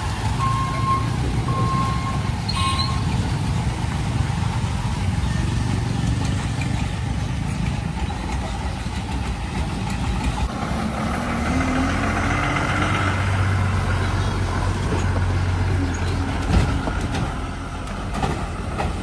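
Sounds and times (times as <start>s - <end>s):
heavy vehicle engine humming: 0.0s - 19.0s
road noise: 0.0s - 19.0s.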